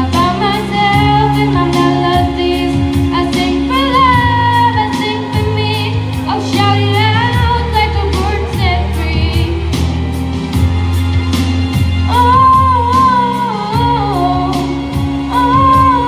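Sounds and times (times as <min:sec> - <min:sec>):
girl singing into microphone: 0:00.0 - 0:09.8, 0:12.1 - 0:16.0
instrumental accompaniment with beat: 0:00.0 - 0:16.0.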